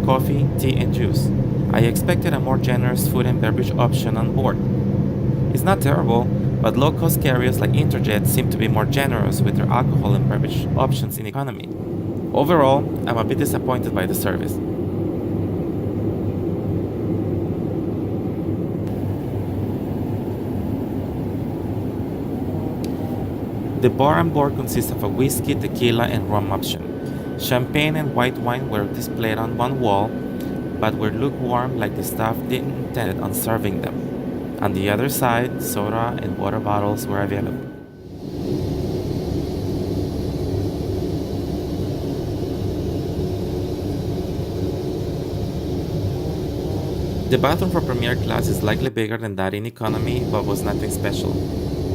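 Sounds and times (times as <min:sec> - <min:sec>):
airliner cabin engine rush: 0:00.0 - 0:49.0, 0:49.9 - 0:51.9.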